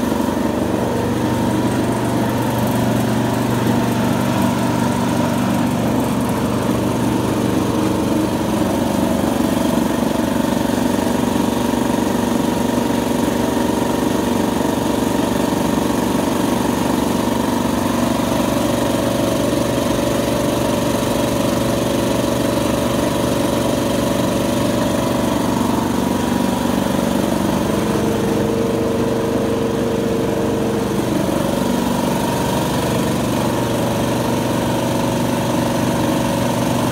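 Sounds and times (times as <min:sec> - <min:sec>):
air compressor running: 0:00.0 - 0:36.9.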